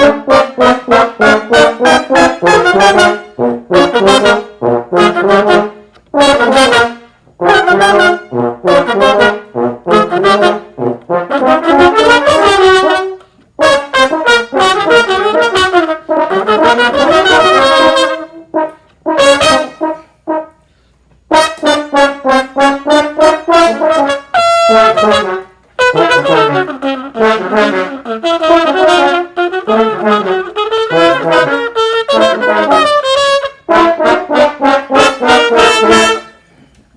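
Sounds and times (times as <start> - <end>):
solo brass instrument: 0.0 - 36.7.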